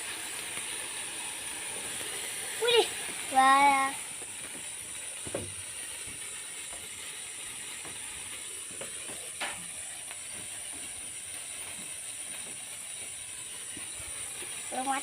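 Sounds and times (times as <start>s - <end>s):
faint crackles: 0.0s - 15.0s
firework hissing: 0.0s - 15.0s.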